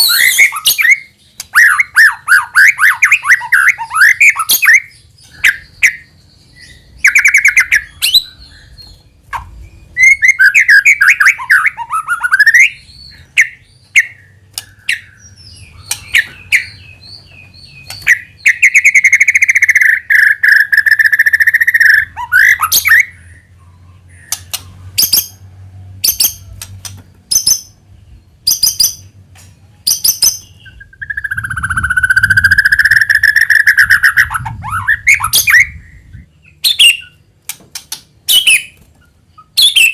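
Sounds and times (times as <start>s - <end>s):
songbird singing whistled phrases: 0.0s - 9.0s, 9.6s - 25.2s, 29.9s - 37.2s, 38.3s - 39.9s.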